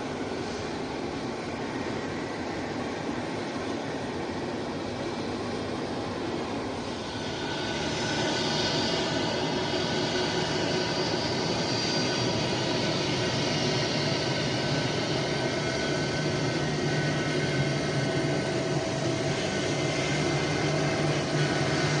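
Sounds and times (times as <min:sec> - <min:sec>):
jet engines rumbling and whining: 0:00.0 - 0:22.0.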